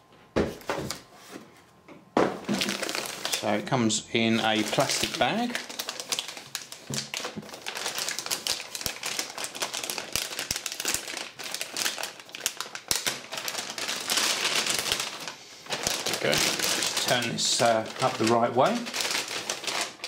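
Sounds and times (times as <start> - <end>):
plastic bag crinkling: 2.4 - 20.0.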